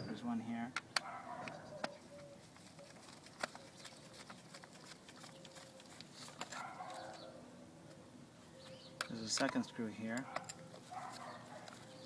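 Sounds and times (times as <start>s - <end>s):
faint bird calls: 1.0s - 12.0s.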